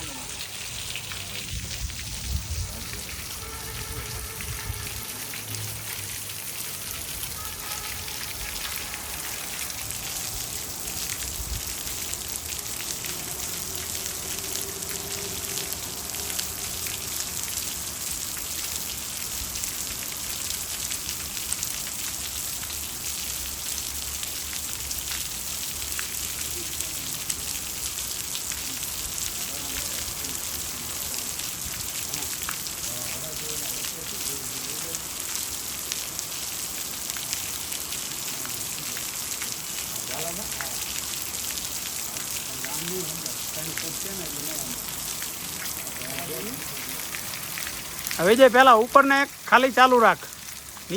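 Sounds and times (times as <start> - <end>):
water spraying from plumbing: 0.0 - 50.9.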